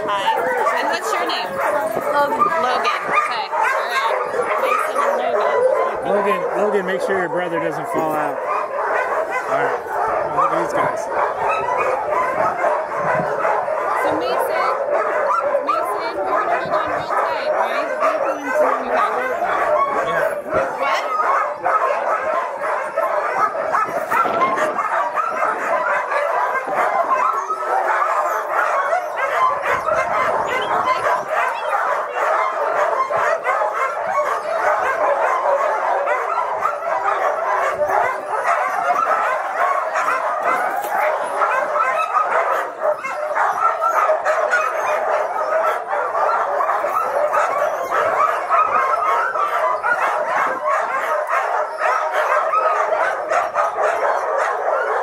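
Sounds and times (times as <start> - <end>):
sled dogs barking: 0.0 - 55.0.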